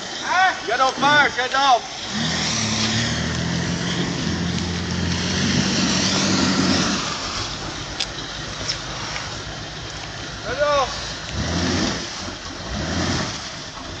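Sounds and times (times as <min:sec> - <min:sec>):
truck engine revving: 0:00.0 - 0:14.0
wheels spinning: 0:00.0 - 0:14.0.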